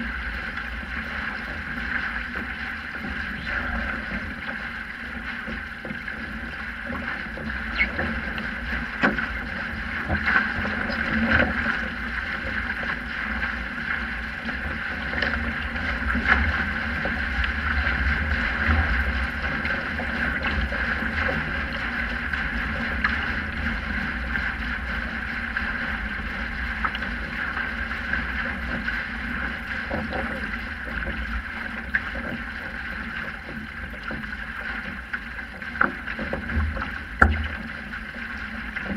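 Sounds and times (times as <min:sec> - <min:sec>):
water rushing along hull: 0:00.0 - 0:38.9
water slaps and knocks: 0:00.0 - 0:38.9
wind rumble on microphone: 0:00.0 - 0:38.9.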